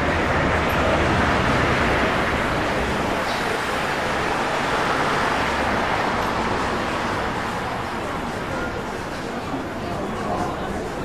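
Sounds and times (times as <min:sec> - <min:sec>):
street rumble and hiss: 0:00.0 - 0:11.0.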